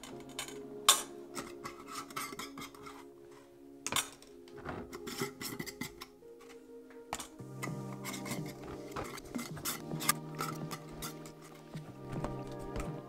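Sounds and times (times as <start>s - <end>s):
metal lids clinking on glass jars: 0.0s - 3.1s, 3.8s - 11.6s
background music with held notes: 0.0s - 13.0s.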